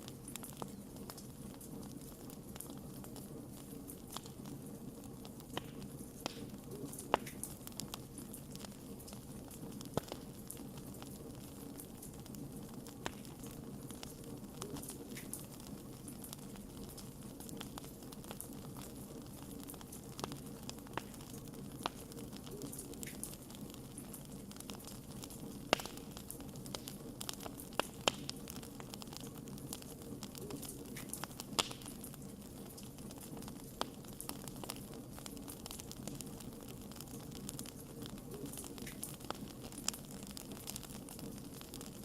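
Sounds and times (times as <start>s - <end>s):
logs crackling and popping: 0.0s - 42.0s.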